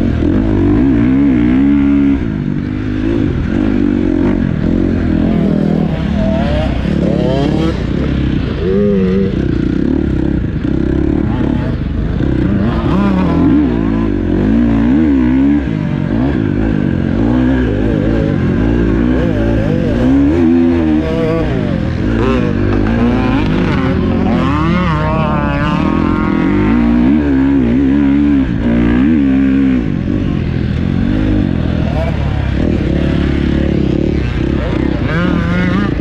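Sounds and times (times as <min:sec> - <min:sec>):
motocross bike engine revving: 0:00.0 - 0:36.0.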